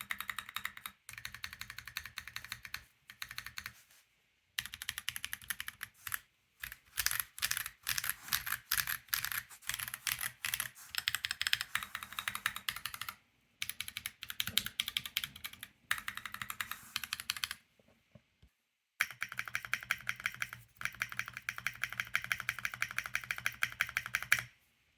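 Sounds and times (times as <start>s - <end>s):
mechanical keyboard typing: 0.0s - 3.8s, 4.6s - 17.6s, 19.0s - 24.5s.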